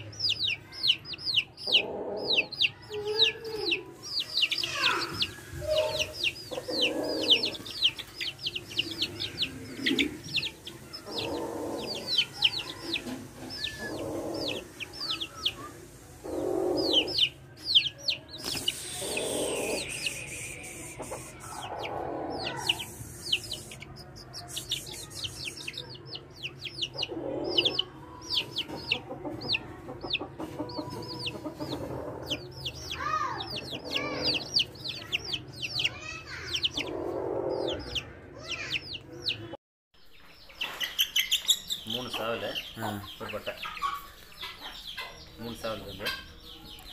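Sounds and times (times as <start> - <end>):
chicks peeping: 0.0 - 46.9
lower longer chick calls: 0.1 - 39.4.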